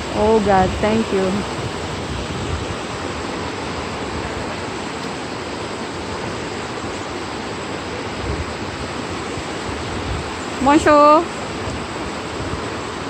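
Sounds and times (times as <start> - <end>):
fast river rushing: 0.0 - 13.0.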